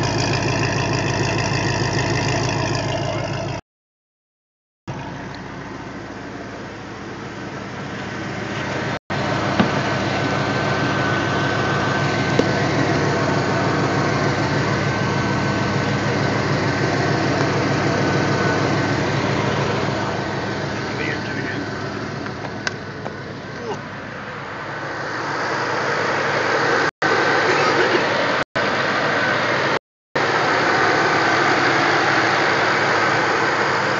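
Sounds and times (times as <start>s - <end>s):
car engine idling: 0.0s - 3.6s, 4.9s - 33.9s.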